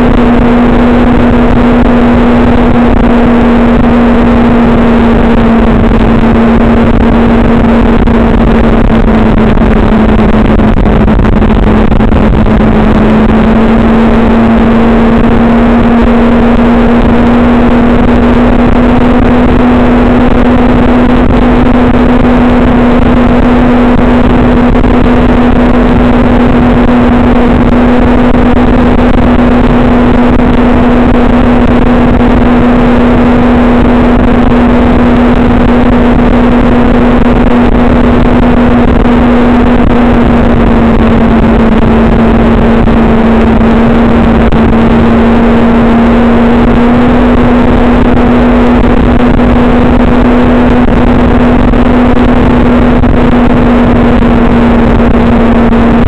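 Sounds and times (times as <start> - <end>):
constant rushing noise: 0.0 - 56.0
vehicle engine running steadily: 0.0 - 56.0.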